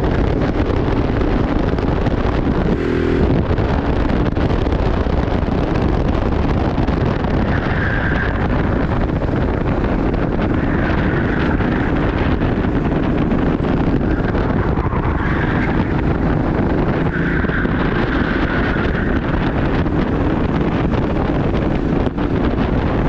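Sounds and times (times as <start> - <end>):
vehicle running: 0.0 - 23.0
wind rushing over microphone: 0.0 - 23.0.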